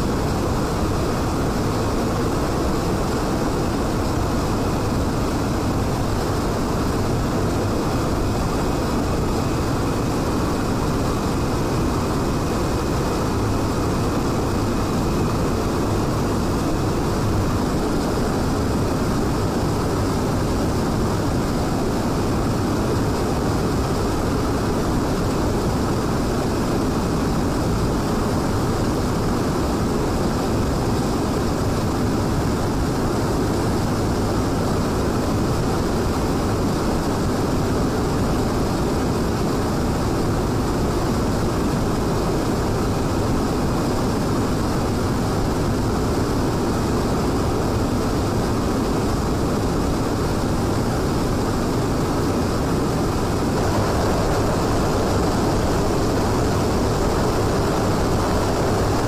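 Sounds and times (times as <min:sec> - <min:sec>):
aircraft engine drone: 0:00.0 - 0:59.0.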